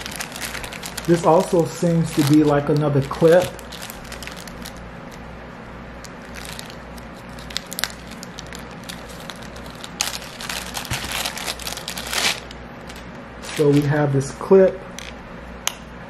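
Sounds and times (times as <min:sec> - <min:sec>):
plastic bag crinkling: 0:00.0 - 0:05.2, 0:06.0 - 0:13.9.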